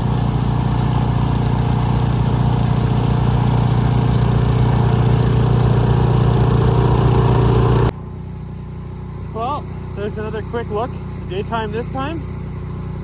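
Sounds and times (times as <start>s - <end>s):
snowblower engine running: 0.0s - 13.0s.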